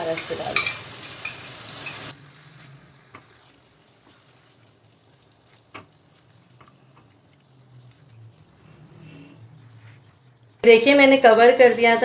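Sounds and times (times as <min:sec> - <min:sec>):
faint sizzle in pan: 0:00.0 - 0:12.0.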